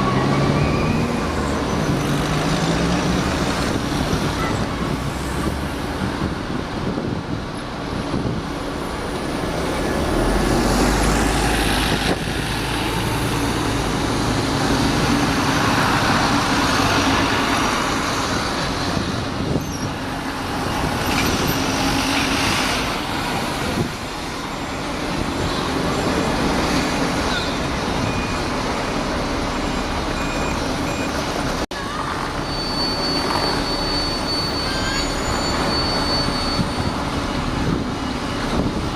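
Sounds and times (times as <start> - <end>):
heavy vehicle deep rumble: 0.0 - 38.9
road traffic engine drone: 0.0 - 38.9.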